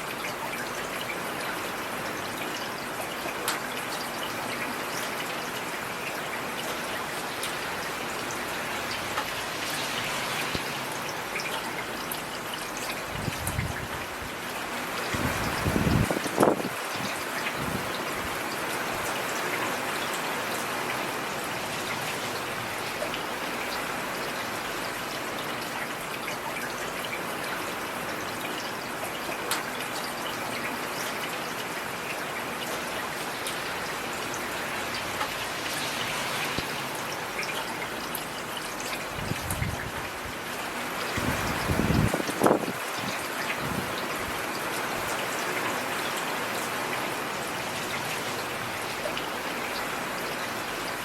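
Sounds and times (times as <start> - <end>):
water trickling: 0.1 - 51.0.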